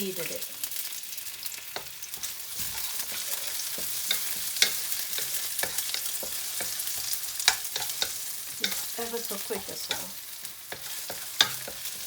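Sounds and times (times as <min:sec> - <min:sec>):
stir-fry sizzling in oil: 0:00.0 - 0:12.0
utensil scraping a pan: 0:01.8 - 0:12.0.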